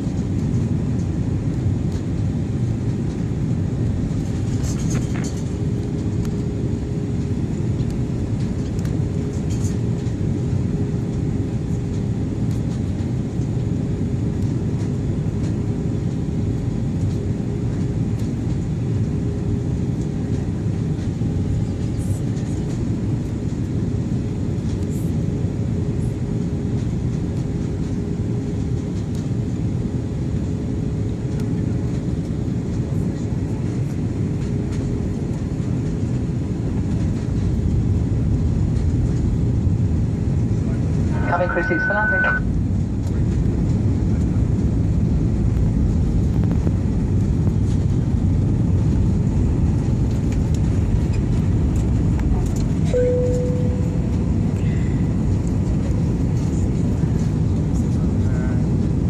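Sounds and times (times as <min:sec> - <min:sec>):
constant hum: 0:00.0 - 0:59.0
jet cabin engine rush: 0:00.0 - 0:59.0.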